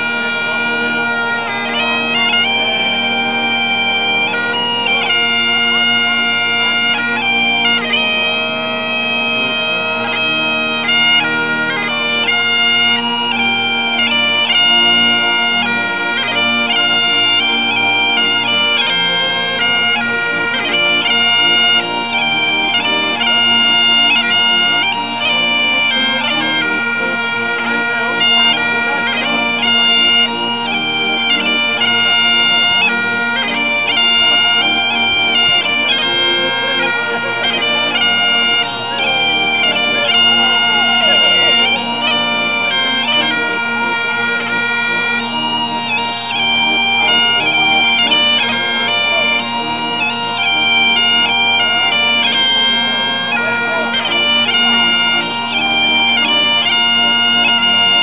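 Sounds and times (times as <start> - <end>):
accordions playing: 0.0 - 58.0
bagpipes playing: 0.0 - 58.0.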